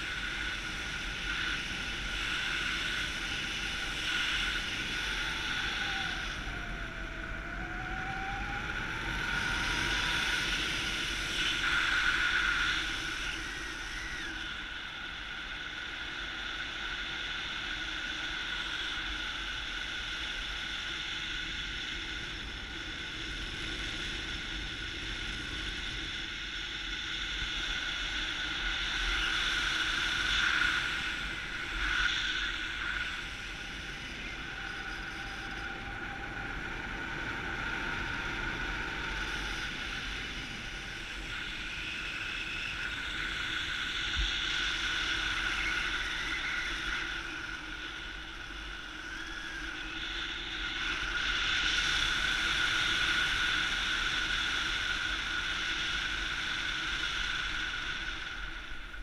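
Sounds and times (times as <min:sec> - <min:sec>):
paramotor engine and propeller: 0:00.0 - 0:59.0.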